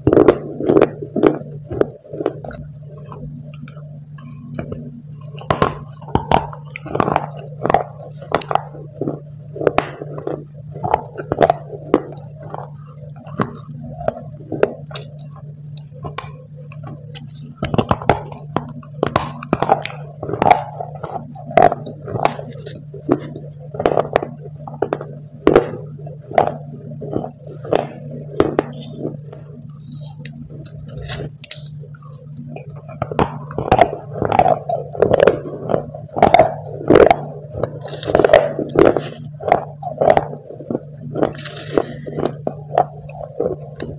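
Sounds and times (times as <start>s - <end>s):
clay crunching being chewed: 0.0s - 43.9s.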